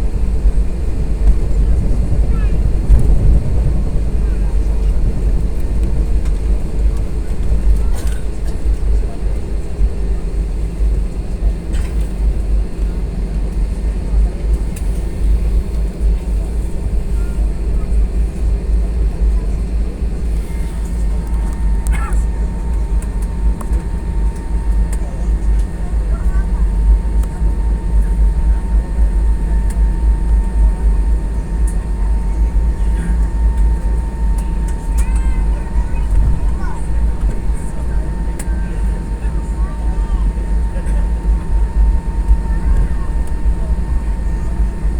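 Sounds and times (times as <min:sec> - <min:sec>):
aircraft cabin rumble: 0:00.0 - 0:44.9.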